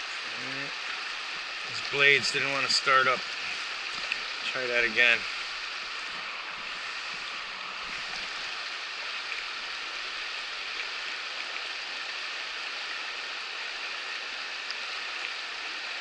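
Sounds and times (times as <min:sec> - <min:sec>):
river rushing over stones: 0:00.0 - 0:16.0.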